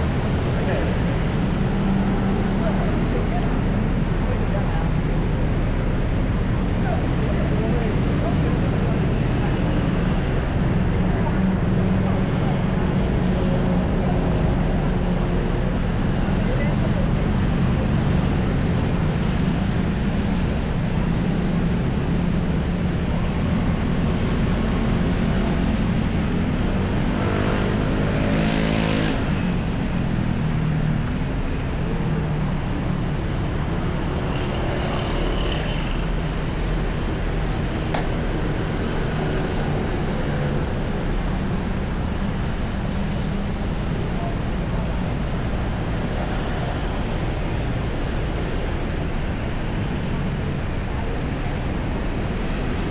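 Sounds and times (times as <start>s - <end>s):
vehicle engines humming: 0.0s - 52.9s.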